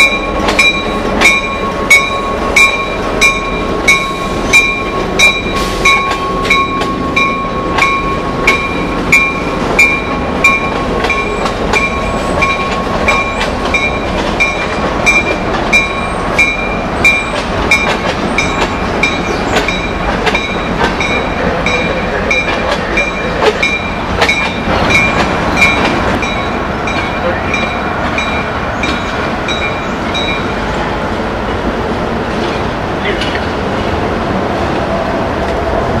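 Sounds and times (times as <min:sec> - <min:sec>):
crossing bell dinging: 0:00.0 - 0:30.6
freight cars rumbling on rails: 0:00.0 - 0:36.0.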